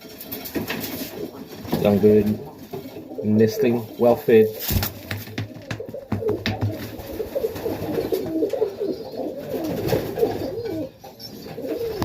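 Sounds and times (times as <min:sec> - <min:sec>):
pigeons cooing: 0:00.1 - 0:12.0.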